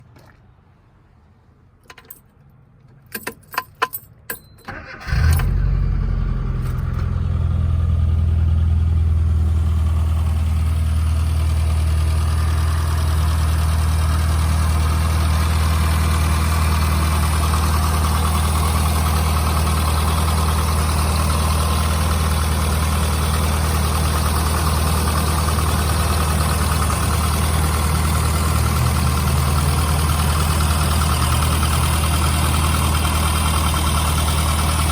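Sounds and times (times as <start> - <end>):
car engine starting and idling: 4.6 - 34.9.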